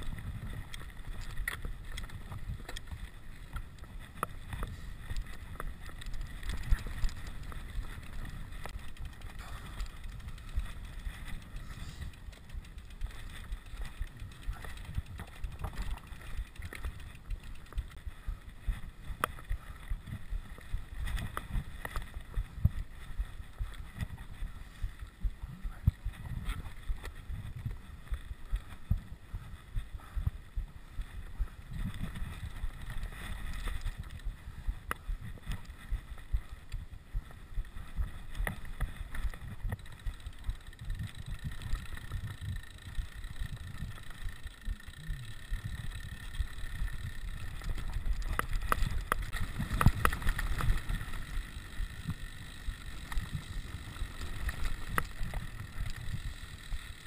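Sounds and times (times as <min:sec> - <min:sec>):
bike rattles and knocks: 0:00.0 - 0:57.0.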